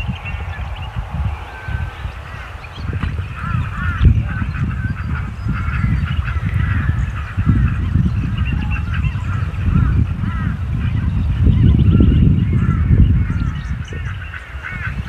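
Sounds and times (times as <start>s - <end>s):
birds calling: 0.0s - 15.0s
wind rumble on microphone: 0.0s - 15.0s.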